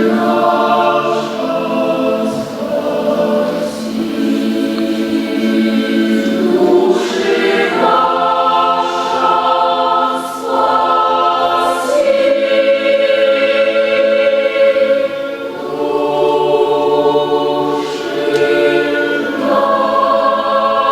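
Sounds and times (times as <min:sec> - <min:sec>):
choir singing in held chords: 0:00.0 - 0:20.9.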